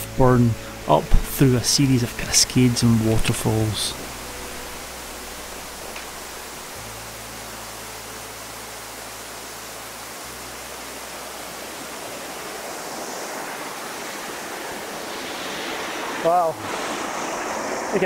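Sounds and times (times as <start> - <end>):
water rushing down cascades: 0.0 - 18.0.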